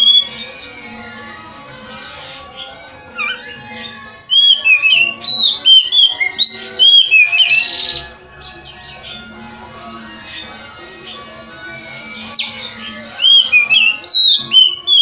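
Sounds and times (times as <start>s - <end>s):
magpie-robin singing whistled notes: 0.0s - 1.4s, 2.0s - 9.5s, 10.1s - 15.0s
faint bird chirping: 0.0s - 15.0s.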